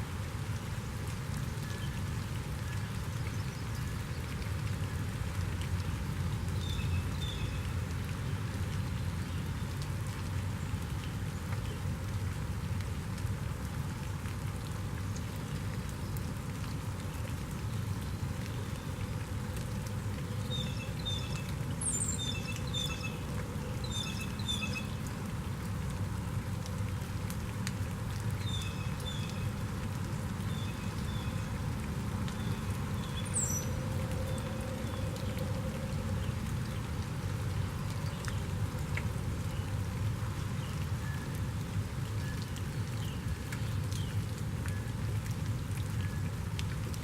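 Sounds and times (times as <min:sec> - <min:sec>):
steady rain falling: 0:00.0 - 0:47.0
water drips: 0:00.0 - 0:47.0.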